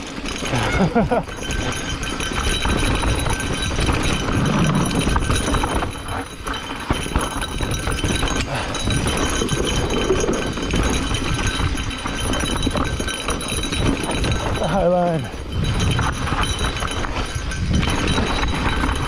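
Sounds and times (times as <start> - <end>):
bike chain and frame rattling: 0.0 - 19.0.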